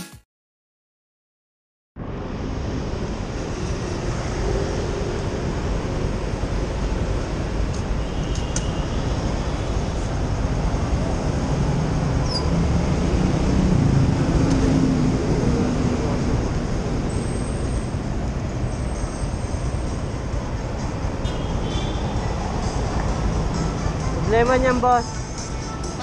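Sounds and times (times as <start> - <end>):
street traffic engine hum: 2.0 - 26.0.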